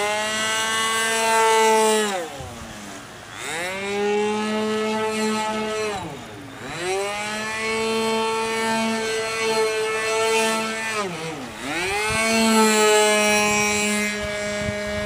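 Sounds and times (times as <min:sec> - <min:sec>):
model airplane engine buzzing: 0:00.0 - 0:15.0.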